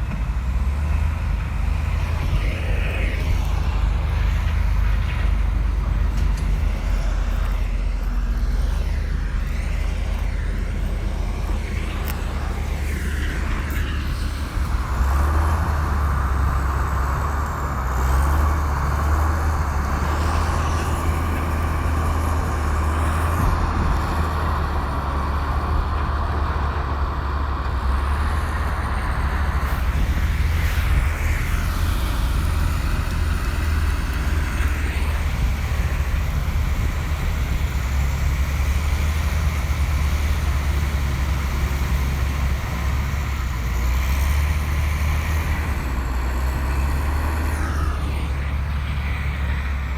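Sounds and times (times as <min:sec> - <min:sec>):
bulldozer diesel engine droning: 0:00.0 - 0:49.9.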